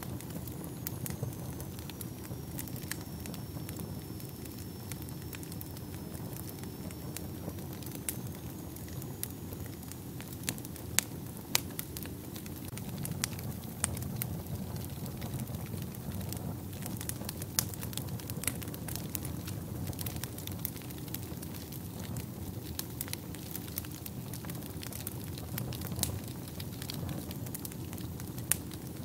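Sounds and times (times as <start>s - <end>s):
fire crackling and popping: 0.0s - 29.0s
fire flames rushing: 0.0s - 29.0s.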